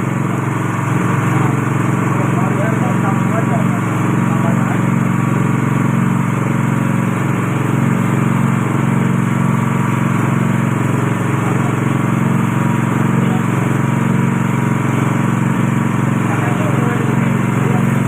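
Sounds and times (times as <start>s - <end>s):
press machine motor drone: 0.0s - 18.0s.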